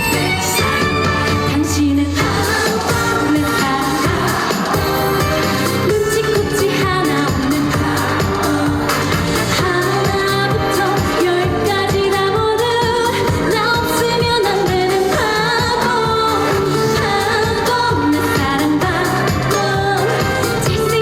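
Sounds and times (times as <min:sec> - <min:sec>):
backing music with steady beat: 0:00.0 - 0:21.0
woman singing: 0:00.0 - 0:21.0.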